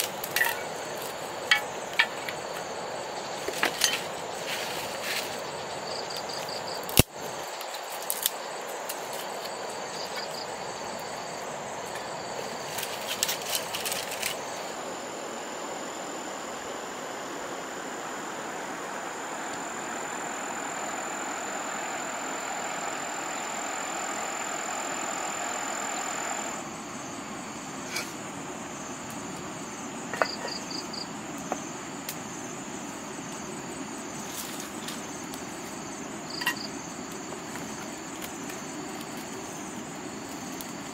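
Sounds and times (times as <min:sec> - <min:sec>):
high insect drone: 0:00.0 - 0:40.9
insects trilling: 0:00.0 - 0:40.9.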